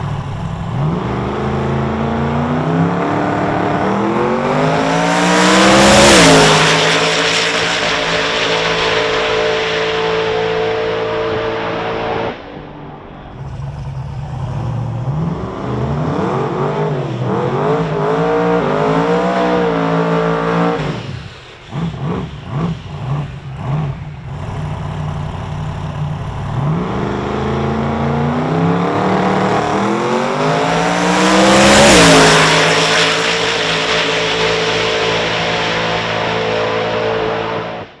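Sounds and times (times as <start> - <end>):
drag car engine revving: 0.0 - 38.0.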